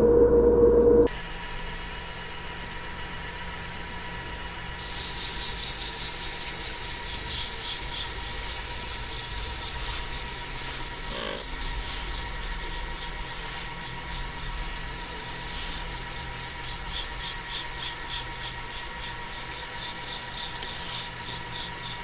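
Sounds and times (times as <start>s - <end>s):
small machine running: 0.0s - 22.0s.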